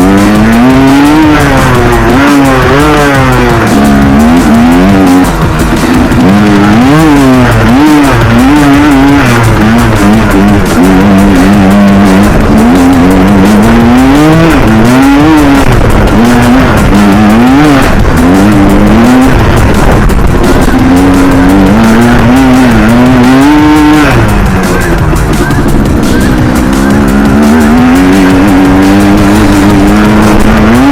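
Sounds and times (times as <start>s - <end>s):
quad engine revving: 0.0s - 30.9s.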